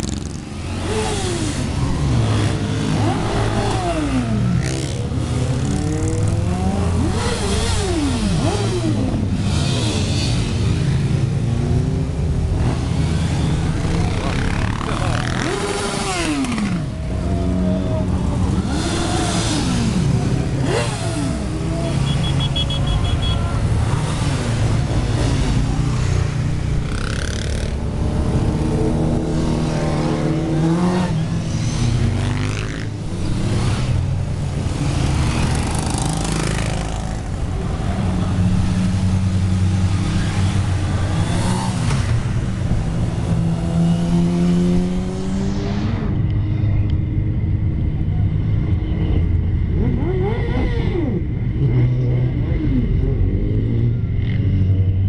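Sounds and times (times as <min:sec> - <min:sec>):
motorcycles revving past: 0:00.0 - 0:46.7.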